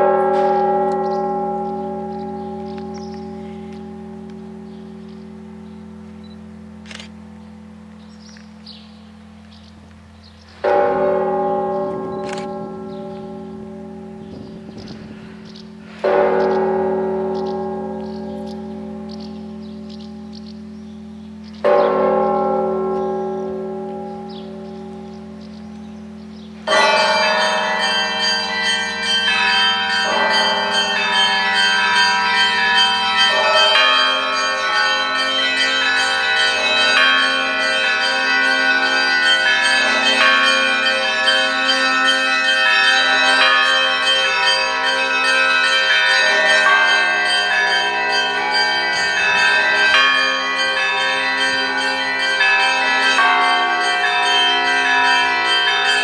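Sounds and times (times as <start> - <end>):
heavy bell striking: 0.0 - 56.0
large bell humming: 0.0 - 56.0.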